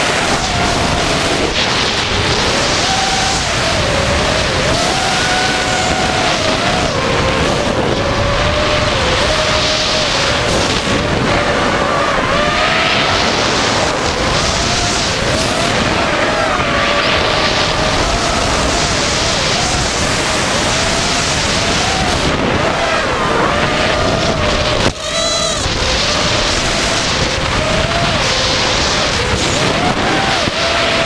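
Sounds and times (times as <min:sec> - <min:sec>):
drone motors buzzing whine: 0:00.0 - 0:31.0
rushing wind noise: 0:00.0 - 0:31.0.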